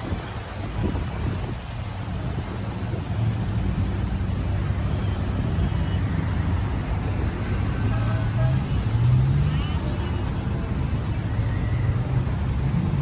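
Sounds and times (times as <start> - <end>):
road noise: 0.0 - 13.0
vehicle engines rumbling: 0.0 - 13.0.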